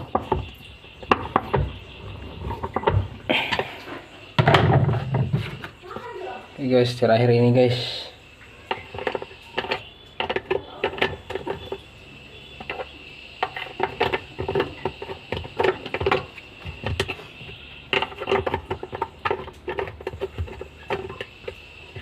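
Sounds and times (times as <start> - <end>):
hard parts clicking and knocking: 0.0 - 6.1, 8.6 - 12.0, 12.6 - 22.0.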